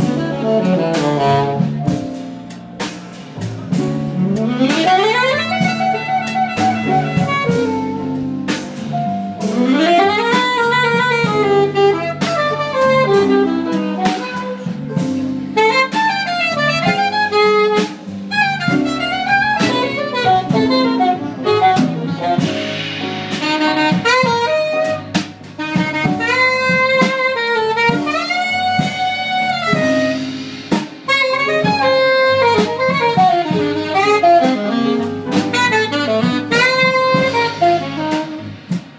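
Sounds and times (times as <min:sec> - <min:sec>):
alto saxophone solo: 0:00.0 - 0:38.9
double bass: 0:00.0 - 0:38.9
drum kit with cymbals: 0:00.0 - 0:38.9.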